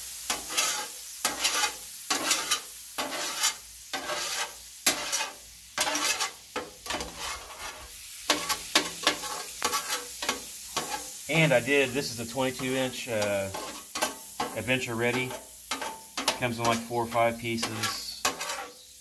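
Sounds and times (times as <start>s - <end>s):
water sizzling on griddle: 0.0s - 19.0s
scraper scraping metal griddle: 0.3s - 19.0s.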